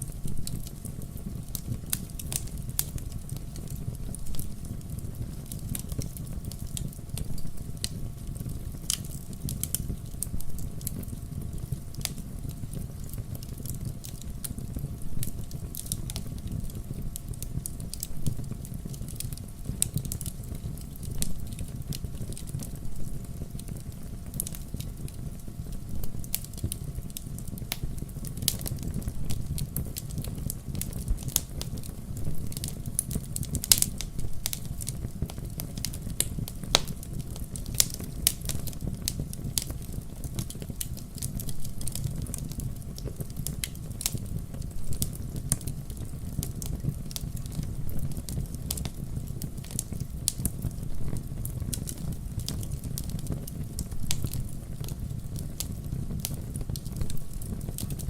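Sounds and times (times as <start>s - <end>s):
wood fire crackling in fireplace: 0.0s - 58.0s.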